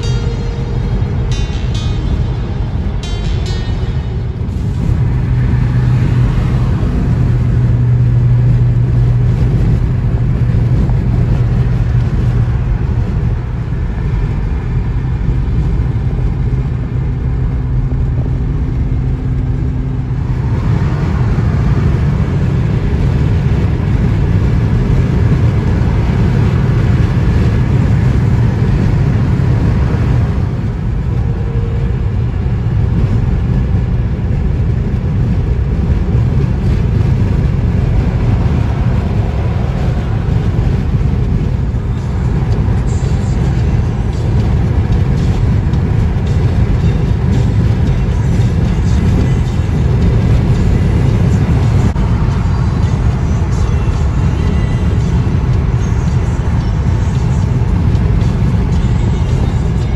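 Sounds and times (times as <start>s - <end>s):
car road noise drone: 0.0s - 59.9s.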